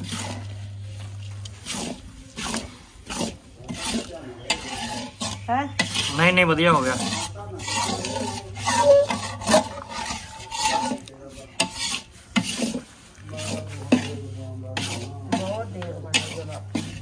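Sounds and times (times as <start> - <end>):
metal stirrer scraping iron pan: 0.0 - 17.0.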